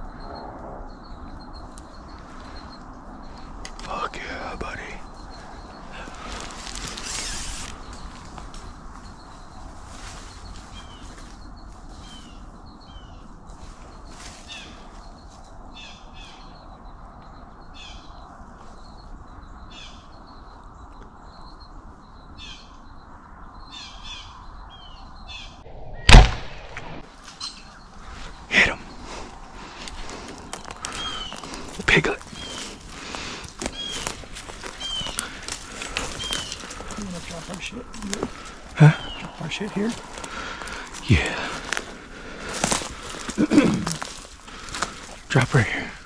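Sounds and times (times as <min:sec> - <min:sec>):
birds calling: 0:00.0 - 0:46.0
outdoor hush: 0:00.0 - 0:46.0.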